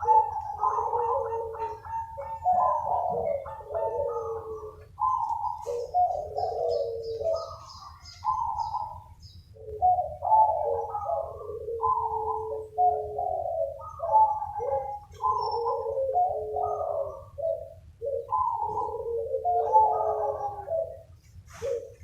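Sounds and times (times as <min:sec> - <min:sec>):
doves cooing: 0:00.0 - 0:22.0
small birds chirping: 0:00.0 - 0:22.0.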